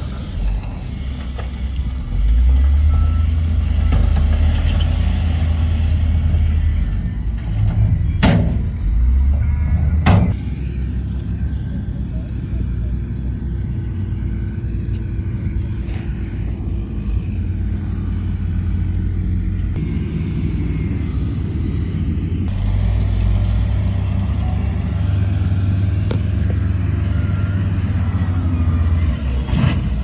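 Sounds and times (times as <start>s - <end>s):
diesel machinery engine drone: 0.0s - 30.0s.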